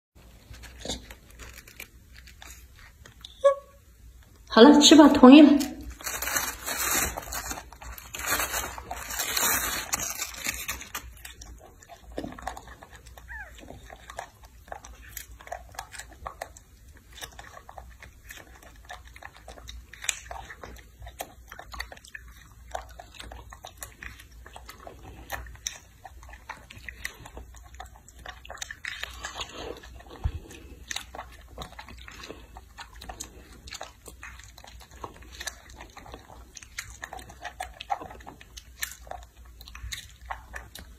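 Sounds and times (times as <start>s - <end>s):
monkey biting and chewing: 0.2s - 4.4s, 5.8s - 40.9s.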